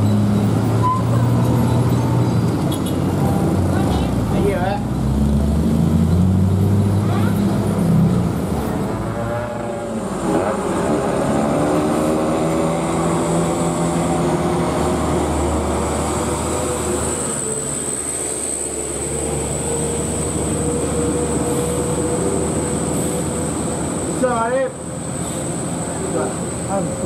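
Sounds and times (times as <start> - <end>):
diesel truck engine labouring: 0.0 - 27.0.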